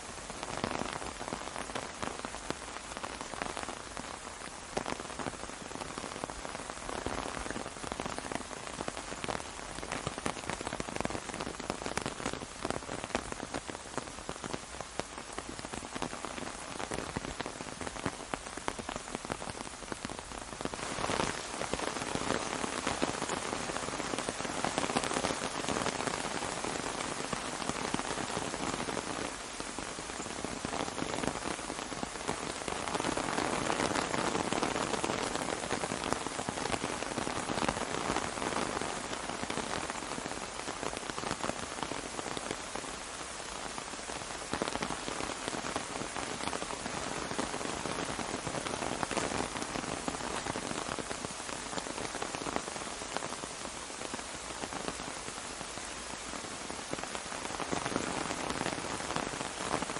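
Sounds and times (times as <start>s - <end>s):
rain pattering on an umbrella: 0.0s - 59.9s.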